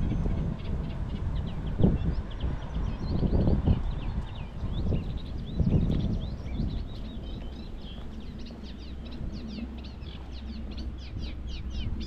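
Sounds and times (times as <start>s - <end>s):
low rumble: 0.0s - 12.0s
songbird chattering: 0.0s - 12.0s.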